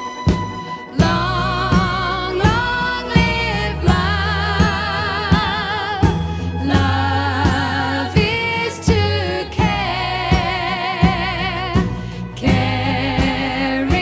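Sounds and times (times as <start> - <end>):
bass: 0.0 - 14.0
pop band backing: 0.0 - 14.0
steady drum beat: 0.0 - 14.0
woman singing with vibrato: 0.8 - 14.0.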